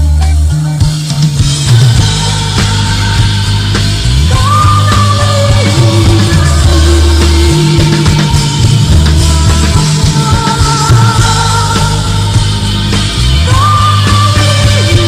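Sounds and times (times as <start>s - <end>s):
bass notes: 0.0s - 15.0s
drum hits: 0.0s - 15.0s.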